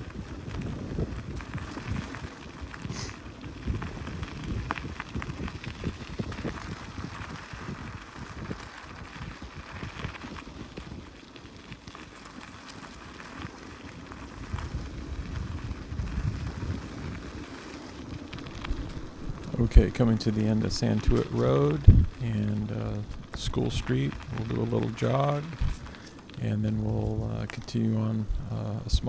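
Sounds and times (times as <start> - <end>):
bike rattling: 0.0 - 29.0
bike tyres on gritty pavement: 0.0 - 29.0
wind rumble on microphone: 0.0 - 29.0.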